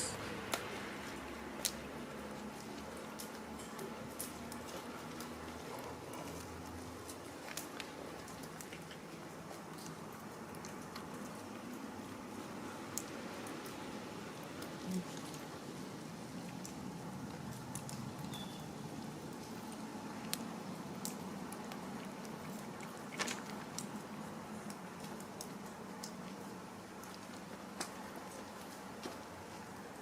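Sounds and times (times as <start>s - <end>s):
cats chewing and crunching food: 0.1s - 30.0s.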